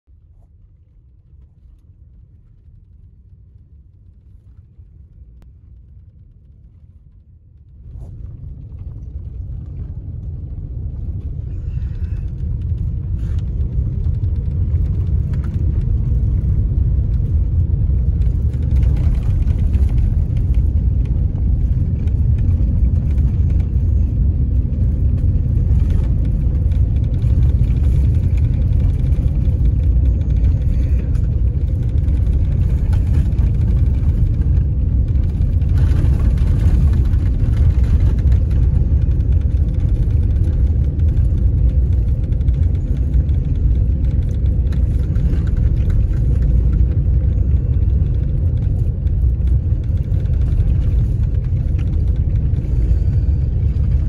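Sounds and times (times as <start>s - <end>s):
vehicle rumbling on snowy road: 0.1s - 54.0s.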